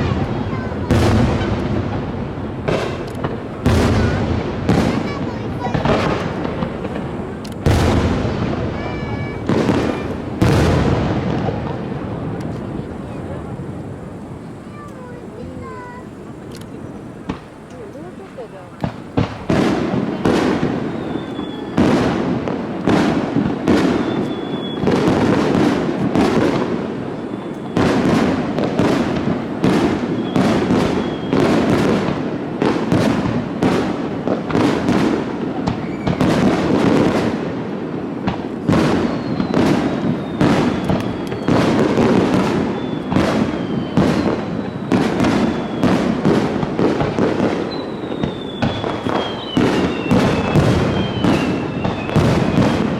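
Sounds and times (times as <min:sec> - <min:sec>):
fireworks bursting: 0:00.0 - 0:52.9
fireworks falling whistles: 0:00.0 - 0:52.9.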